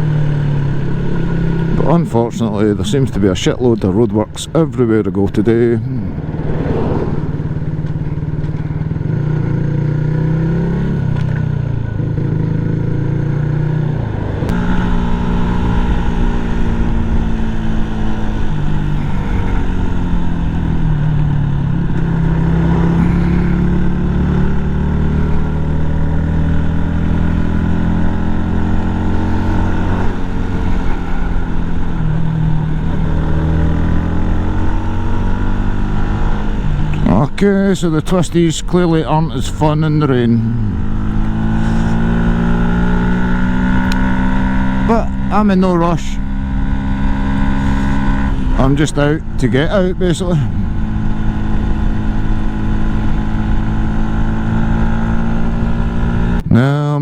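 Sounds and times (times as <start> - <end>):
motorcycle engine accelerating: 0.0 - 56.9
road and wind noise: 0.0 - 57.0.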